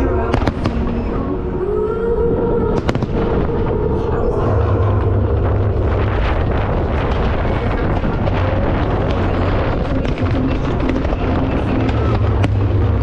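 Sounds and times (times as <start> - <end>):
fireworks crackling: 0.0 - 1.5, 2.7 - 13.0
fireworks bursting rumble: 0.0 - 1.6, 2.3 - 13.0.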